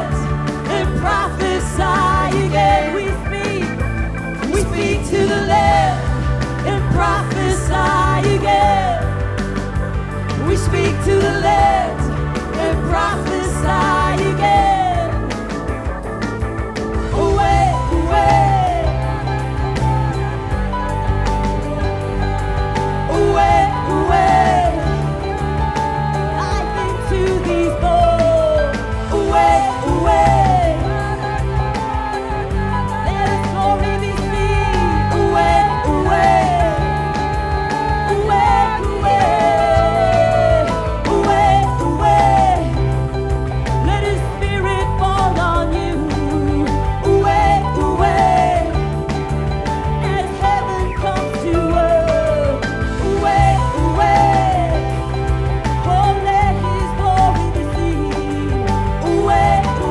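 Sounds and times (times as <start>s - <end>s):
worship band music: 0.0s - 59.9s.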